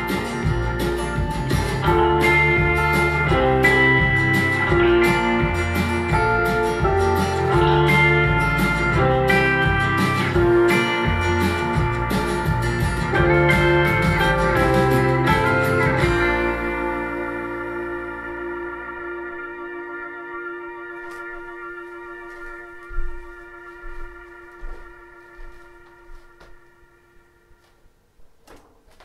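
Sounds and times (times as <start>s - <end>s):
acoustic folk music on speakers: 0.0s - 27.8s.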